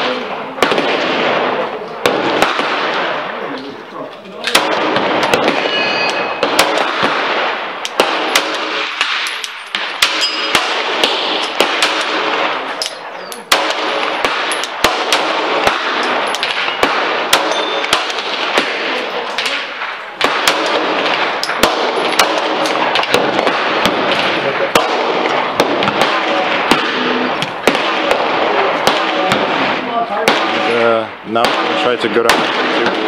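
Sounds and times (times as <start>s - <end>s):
pistol shots hitting steel targets: 4.4s - 33.0s.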